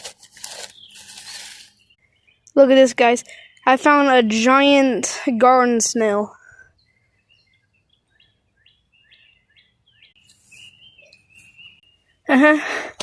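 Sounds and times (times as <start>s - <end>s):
faint bird chirping: 0.4s - 12.9s.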